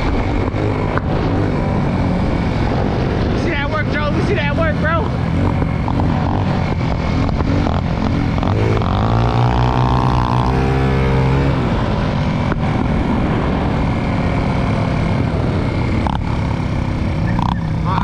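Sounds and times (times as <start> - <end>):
moped engine accelerating: 0.0 - 18.0
wind rush on microphone: 0.0 - 18.0.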